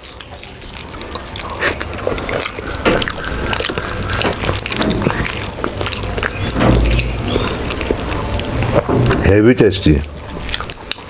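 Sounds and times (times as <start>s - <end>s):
chewing and smacking: 0.0s - 11.0s
wet food mixed by hand: 0.0s - 11.0s.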